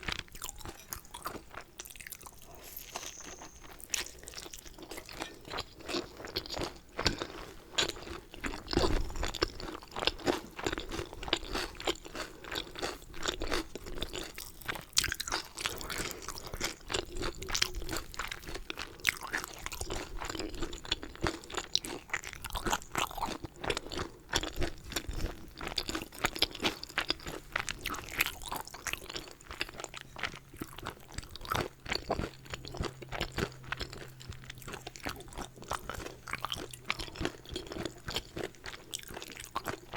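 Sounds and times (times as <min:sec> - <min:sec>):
close chewing with mouth clicks: 0:00.0 - 0:39.9.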